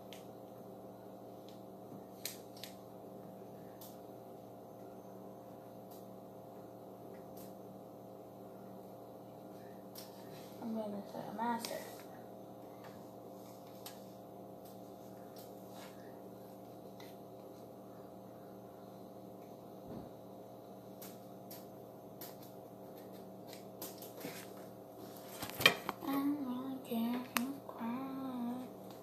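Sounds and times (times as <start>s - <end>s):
faint room hum: 0.0s - 29.0s.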